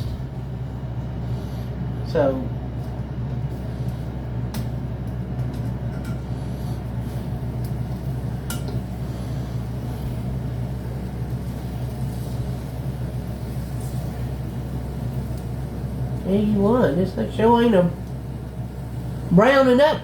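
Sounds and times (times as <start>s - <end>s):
kitchen appliance humming: 0.0s - 20.0s.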